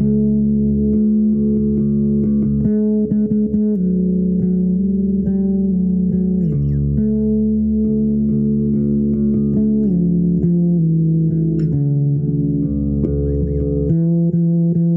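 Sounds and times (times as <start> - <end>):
guitar notes with slides: 0.0 - 14.9.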